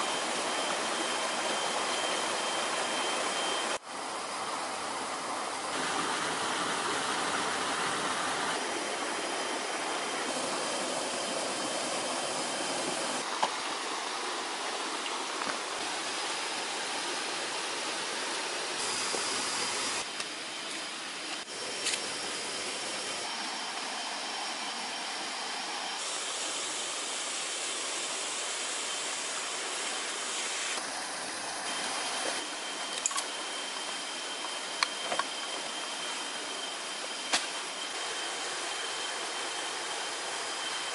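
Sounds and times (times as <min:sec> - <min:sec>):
forest ambience hiss: 0:00.0 - 0:40.9.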